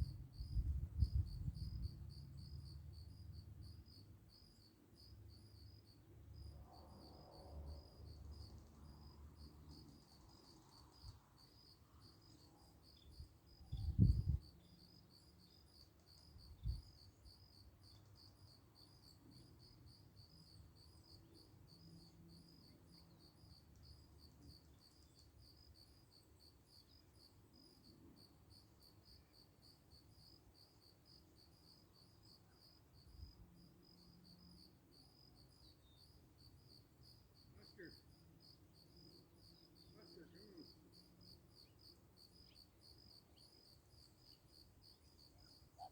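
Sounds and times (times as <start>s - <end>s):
insect chirping: 0.0s - 45.9s.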